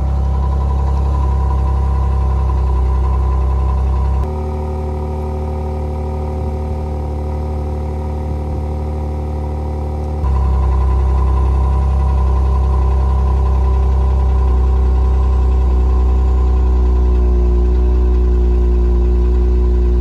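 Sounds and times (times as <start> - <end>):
car exhaust idling: 0.0 - 20.0.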